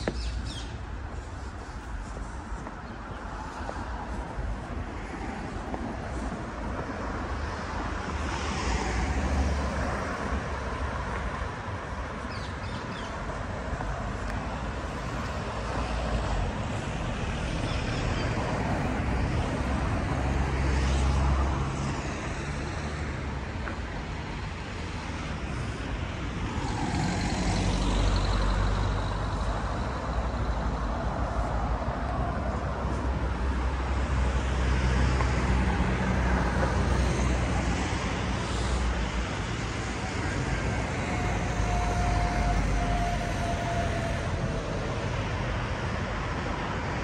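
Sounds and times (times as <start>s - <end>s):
vehicles driving past: 0.0s - 47.0s.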